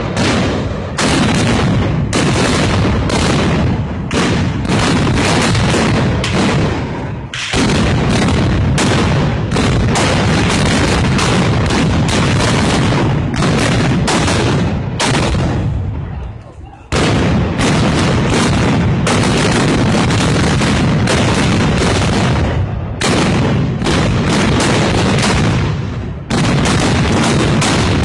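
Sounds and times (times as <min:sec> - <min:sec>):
black-powder gunfire: 0:00.0 - 0:16.0, 0:16.9 - 0:28.0.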